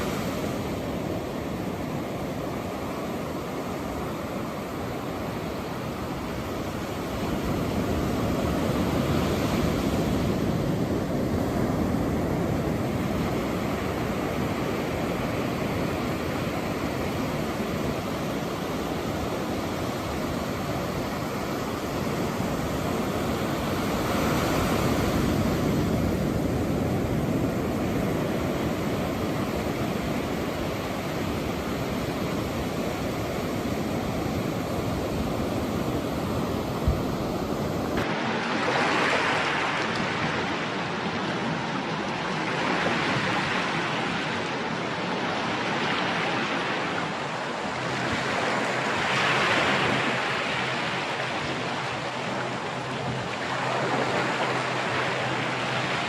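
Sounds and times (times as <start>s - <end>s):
rushing surf or wind noise: 0.0s - 56.0s.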